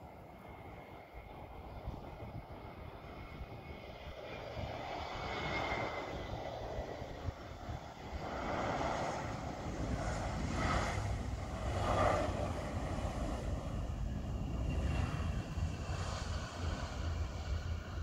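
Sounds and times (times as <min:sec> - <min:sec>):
jet engines rushing hum: 0:00.0 - 0:18.0
wind rumble on microphone: 0:00.0 - 0:18.0.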